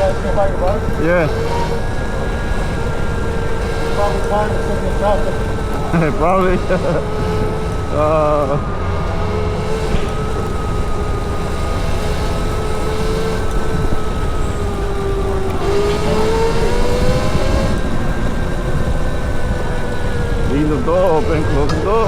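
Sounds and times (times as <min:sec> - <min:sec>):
electric motorcycle motor whining: 0:00.0 - 0:22.0
wind and road noise: 0:00.0 - 0:22.0.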